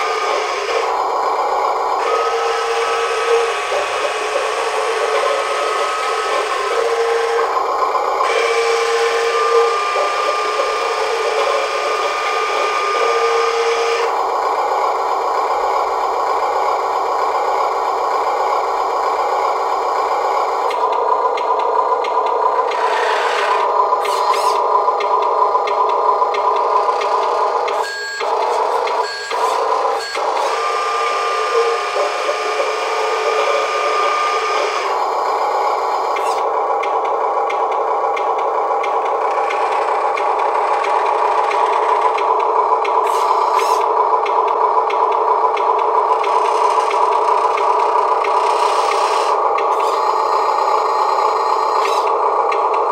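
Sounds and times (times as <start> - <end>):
electric motor and gears whirring: 0.0 - 52.9.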